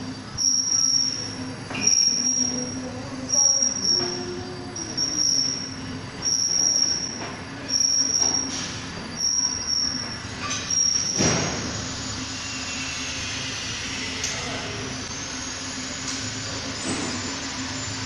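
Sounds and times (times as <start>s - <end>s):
machine high-pitched squeal: 0.0s - 18.0s
machine low hum: 0.0s - 18.0s.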